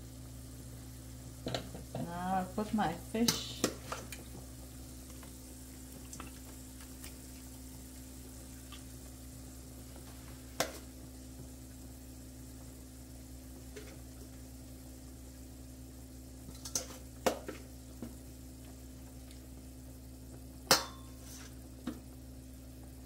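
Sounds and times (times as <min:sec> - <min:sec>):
broth bubbling in a pot: 0:00.0 - 0:23.0.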